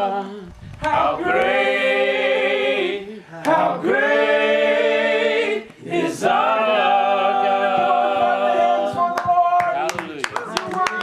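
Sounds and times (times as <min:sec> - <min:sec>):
group singing worship song: 0:00.0 - 0:09.6.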